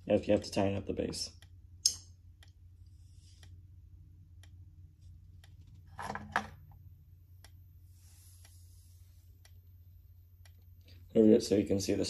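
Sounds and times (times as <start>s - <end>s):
faint strobe ticking: 0.8s - 5.6s, 6.7s - 12.0s.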